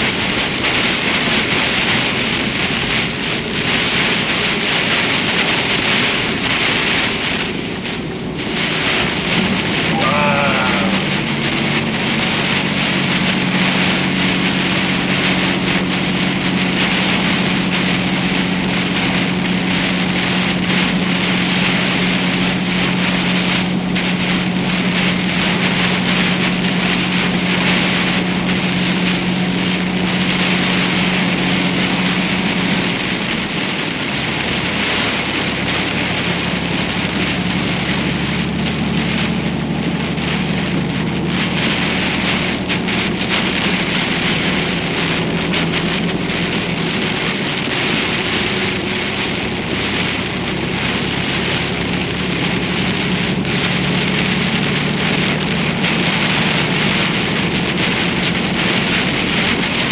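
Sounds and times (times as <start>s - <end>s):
heavy rain on vehicle: 0.0s - 59.9s
vehicle engine drone: 0.0s - 59.9s.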